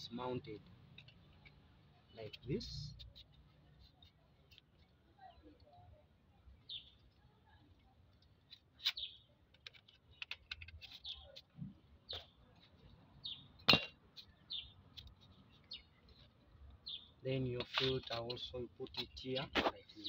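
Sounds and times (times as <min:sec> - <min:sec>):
birds chirping: 0:00.0 - 0:07.7, 0:08.7 - 0:20.0.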